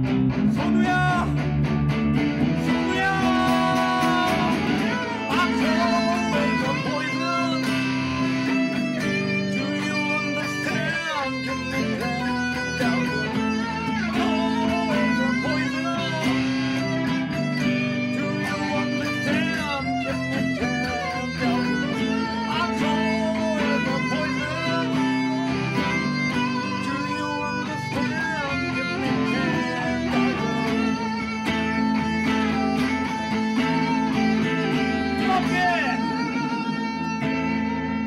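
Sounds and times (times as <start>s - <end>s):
electric guitar with bent notes: 0.0s - 38.0s.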